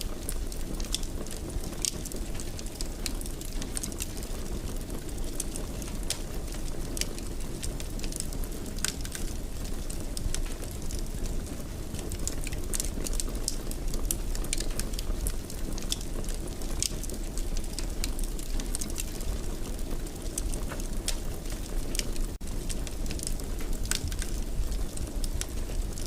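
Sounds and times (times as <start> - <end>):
fire crackling and popping: 0.0 - 26.0
fire flames rumbling: 0.0 - 26.0.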